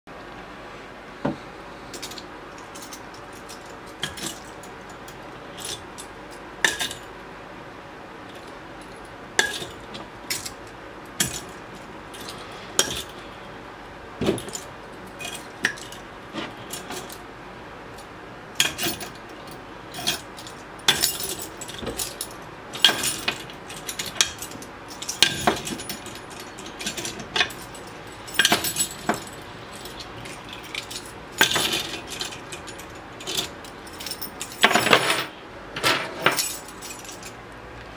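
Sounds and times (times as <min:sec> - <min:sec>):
keys jangling: 0:01.9 - 0:06.1, 0:08.3 - 0:13.3, 0:14.2 - 0:17.2, 0:18.0 - 0:37.4.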